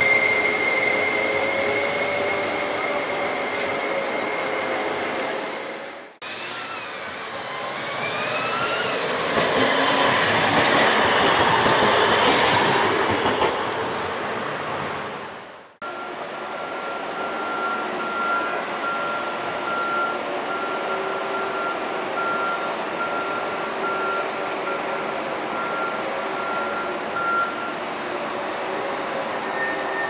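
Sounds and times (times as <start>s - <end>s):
tram passing by: 0.0s - 30.0s.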